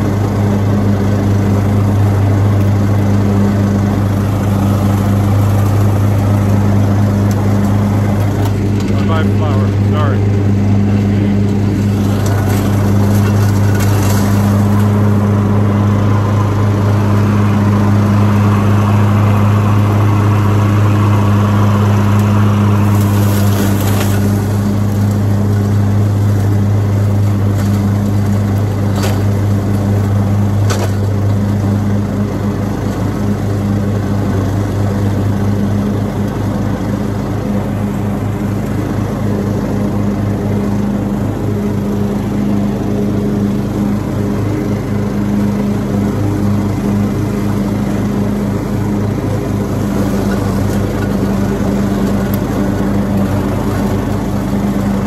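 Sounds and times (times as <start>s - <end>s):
riding lawn mower engine: 0.0s - 55.0s.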